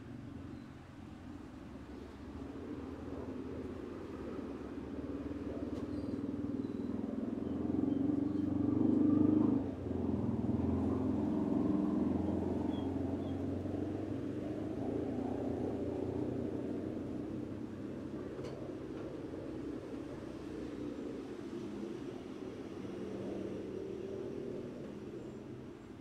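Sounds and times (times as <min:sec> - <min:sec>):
motor vehicle rumble: 0:00.0 - 0:26.0.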